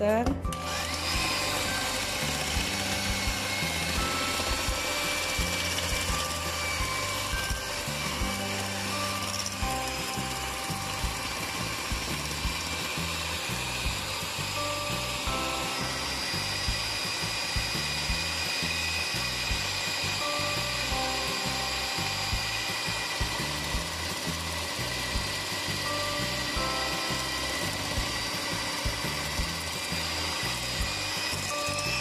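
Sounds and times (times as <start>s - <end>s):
background music with beat: 0.0s - 32.0s
electric hand mixer whining: 0.5s - 32.0s.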